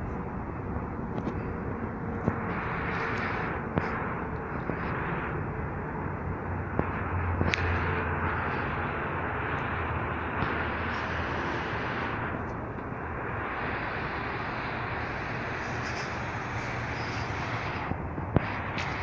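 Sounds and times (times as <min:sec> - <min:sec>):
low hum: 0:00.0 - 0:19.0
outdoor rushing noise: 0:00.0 - 0:19.0.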